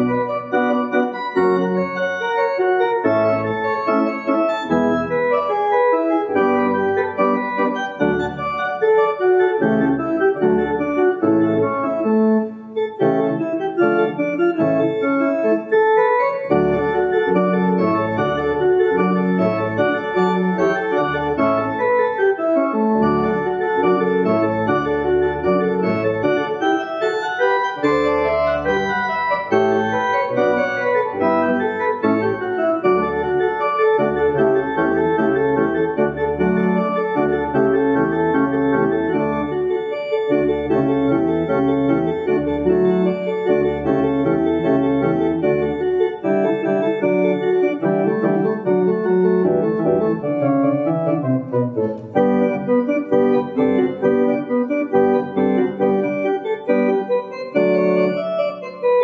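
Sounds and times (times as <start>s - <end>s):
electronic organ chords: 0.0s - 59.0s
organ pedal bass: 0.0s - 59.0s.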